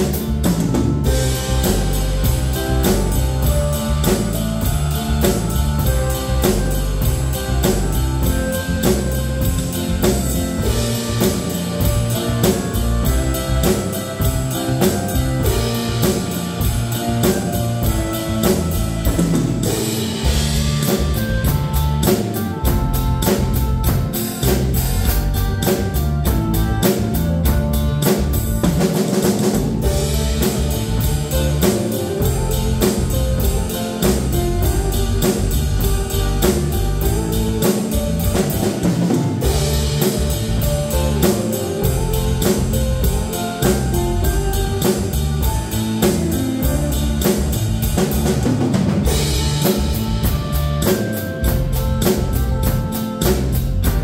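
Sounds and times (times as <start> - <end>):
drum kit playing steady beat: 0.0 - 54.0
pop backing track with guitar: 0.0 - 54.0.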